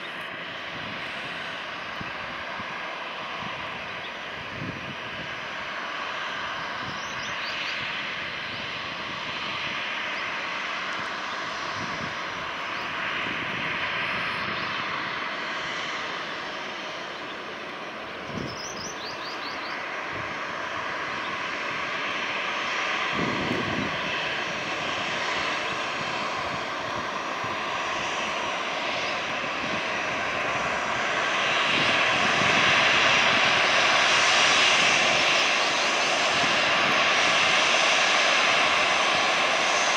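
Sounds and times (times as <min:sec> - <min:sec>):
jet engines rushing with whine: 0:00.0 - 0:39.9.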